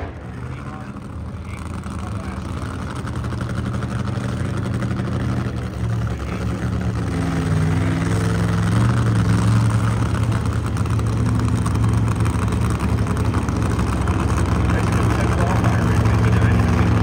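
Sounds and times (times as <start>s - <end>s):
car engine idling: 0.0s - 17.0s
engine revving: 0.0s - 17.0s.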